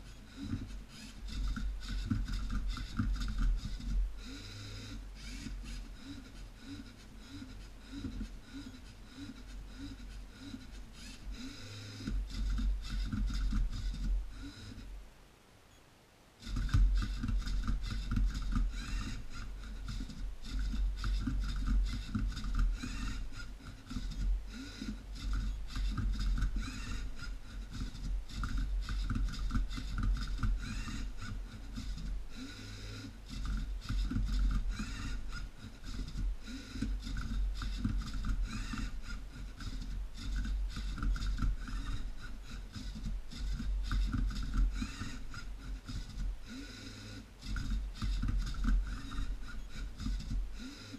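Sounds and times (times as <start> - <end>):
servo motors whining: 0.0 - 15.0, 16.4 - 50.9.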